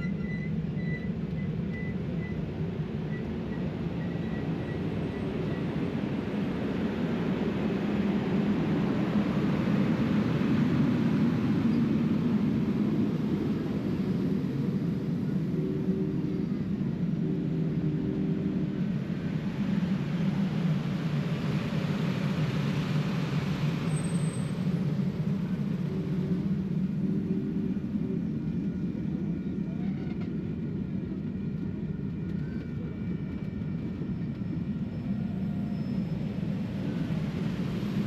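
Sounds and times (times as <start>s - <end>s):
steel train wheels rumbling on rails: 0.0s - 38.0s.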